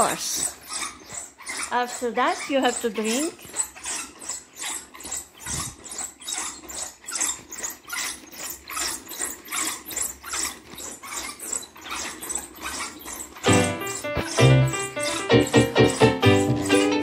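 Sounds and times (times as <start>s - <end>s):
wooden massage roller clattering: 0.0s - 17.0s.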